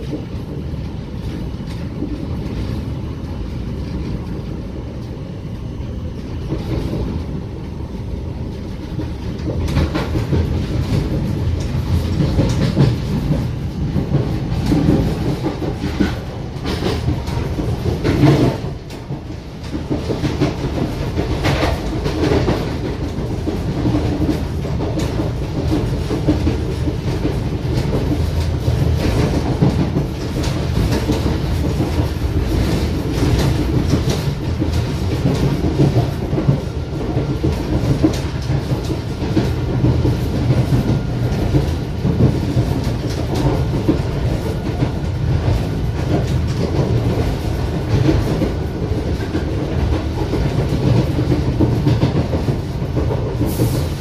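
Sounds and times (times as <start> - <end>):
train rumbling: 0.0 - 54.0
wheels clicking over rails: 8.6 - 54.0.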